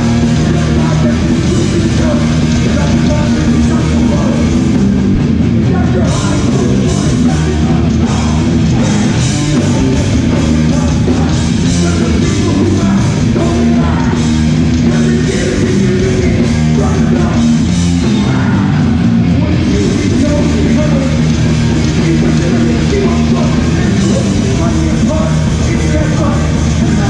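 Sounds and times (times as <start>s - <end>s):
bass guitar: 0.0s - 27.0s
distorted electric guitars: 0.0s - 27.0s
driving drum kit: 0.0s - 27.0s
person singing: 0.0s - 27.0s.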